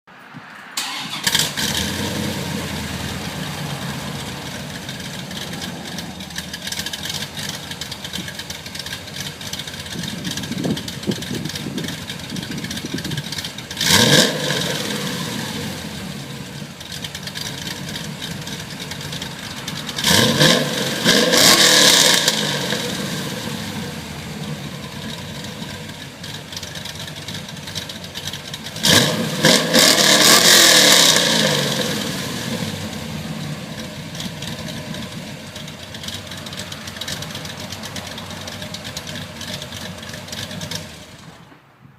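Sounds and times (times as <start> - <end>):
car engine starting: 0.1 - 41.9
car engine revving: 0.8 - 41.6
car engine idling: 0.8 - 41.9.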